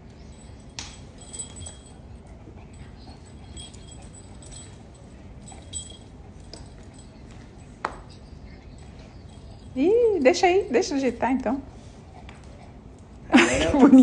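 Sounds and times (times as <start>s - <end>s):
light jingling: 0.0s - 11.6s.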